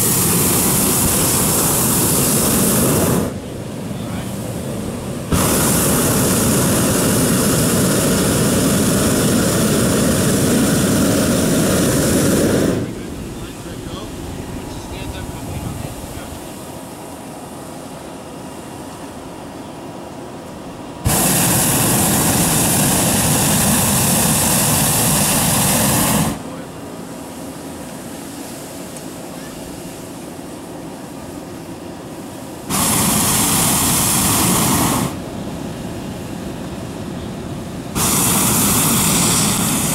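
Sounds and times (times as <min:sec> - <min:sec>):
inflation fans running: 0:00.0 - 0:39.9
propane burner roaring: 0:00.0 - 0:39.9.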